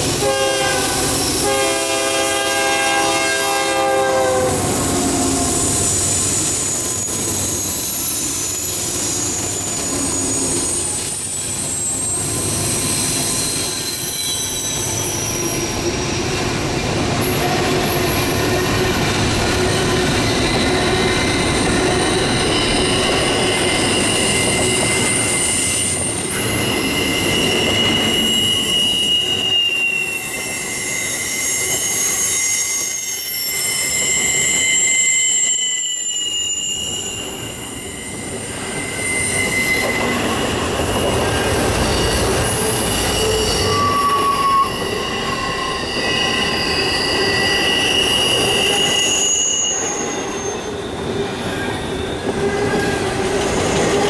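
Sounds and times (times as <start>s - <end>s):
train wheels rumbling on rails: 0.0s - 54.0s
wheel flange squeal: 5.0s - 16.2s, 17.2s - 54.0s.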